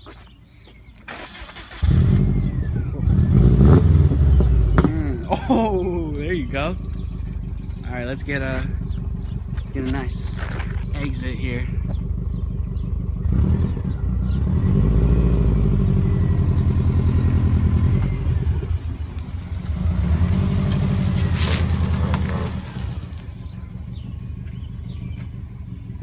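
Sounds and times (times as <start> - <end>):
car engine accelerating: 1.3 - 26.0.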